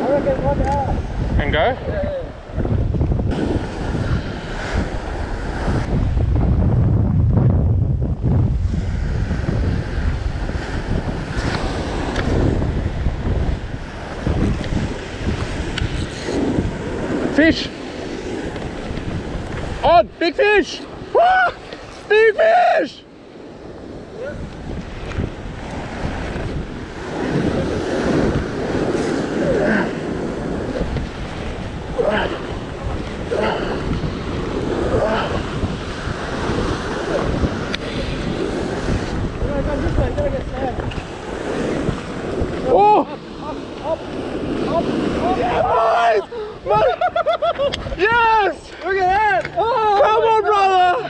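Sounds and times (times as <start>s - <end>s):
wind rumbling on microphone: 0.0s - 51.0s
ocean waves breaking on rocks: 8.0s - 51.0s.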